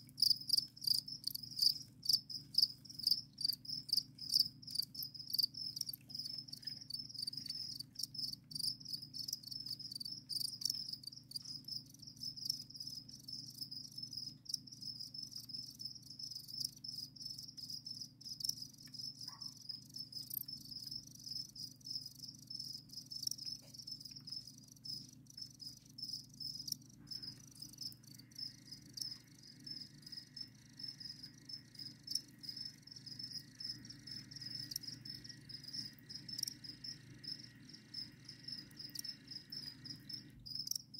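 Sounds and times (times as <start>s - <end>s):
crickets chirping: 0.0s - 40.9s
low steady hum: 0.0s - 40.9s.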